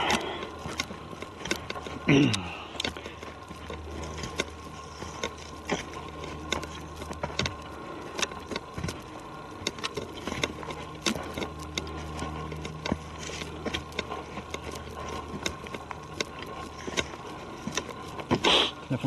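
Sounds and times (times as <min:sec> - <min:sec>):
distant airplane drone: 0:00.0 - 0:19.0
footsteps crunching on forest trail: 0:00.0 - 0:19.0.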